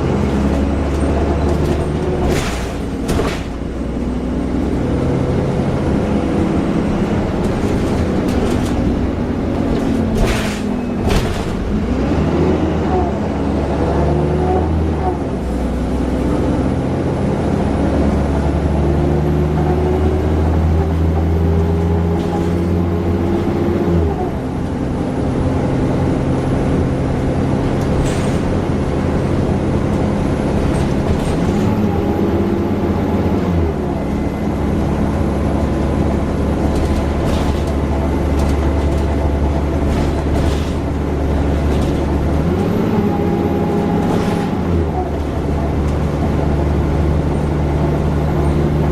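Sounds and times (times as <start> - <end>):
bus engine accelerating: 0.0 - 48.9.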